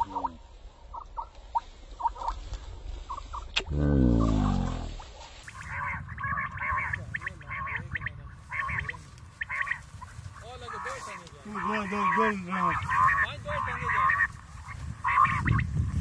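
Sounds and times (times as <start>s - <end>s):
quail chirping: 0.0s - 3.6s, 5.3s - 16.0s
quail drawn-out falling cry: 0.0s - 16.0s.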